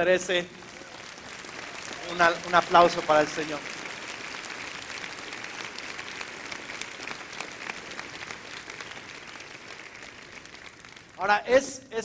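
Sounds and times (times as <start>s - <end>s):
congregation applauding: 0.0s - 11.6s.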